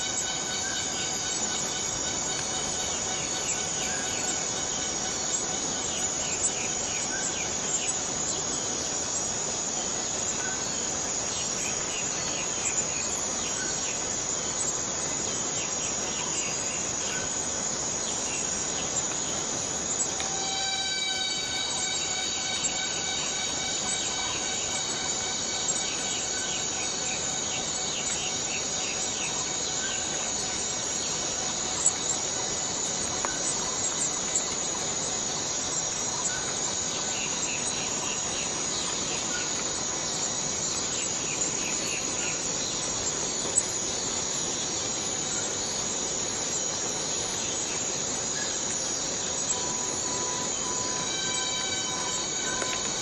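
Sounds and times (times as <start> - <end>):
cicadas droning: 0.0 - 53.0.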